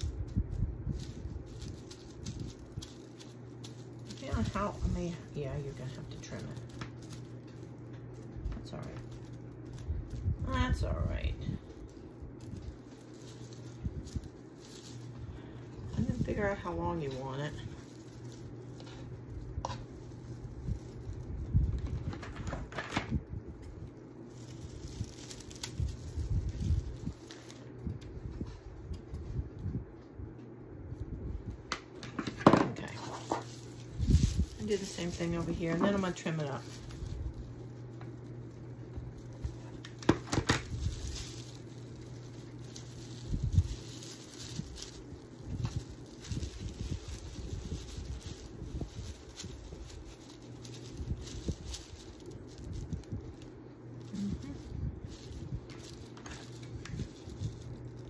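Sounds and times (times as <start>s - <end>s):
fringe rustling: 0.0s - 58.0s
steady low hum: 0.0s - 58.0s.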